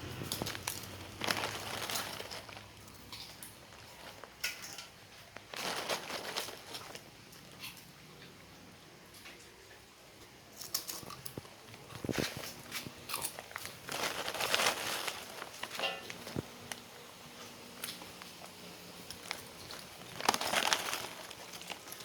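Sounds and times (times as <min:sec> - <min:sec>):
dogs crunching biscuits: 0:00.0 - 0:08.4, 0:10.5 - 0:22.0.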